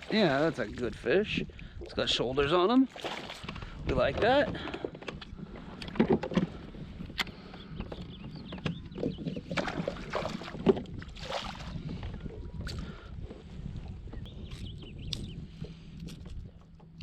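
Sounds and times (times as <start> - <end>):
knocks and rustles on a kayak: 2.9 - 17.0.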